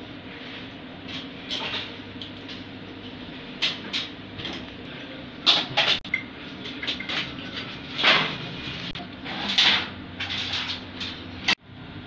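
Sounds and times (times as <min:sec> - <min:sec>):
equipment humming: 0:00.0 - 0:12.0.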